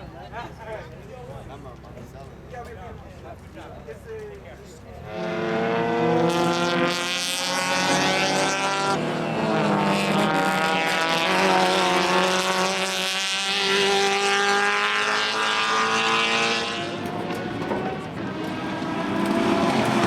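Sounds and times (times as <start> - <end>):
race car engines at high revs: 0.0 - 20.0.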